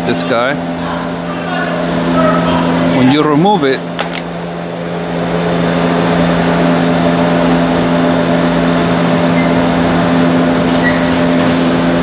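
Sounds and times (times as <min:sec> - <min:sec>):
heater machine drone: 0:00.0 - 0:12.0.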